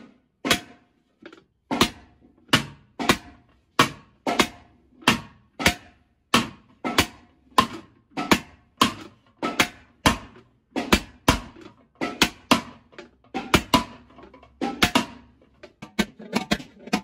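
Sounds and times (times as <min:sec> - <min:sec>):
hammer clanking on metal pot: 0:01.7 - 0:17.0.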